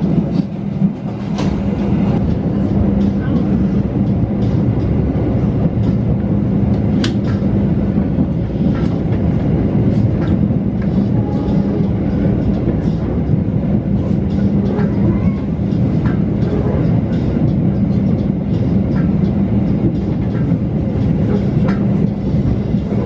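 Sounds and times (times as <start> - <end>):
train coach rumble: 0.0 - 23.0.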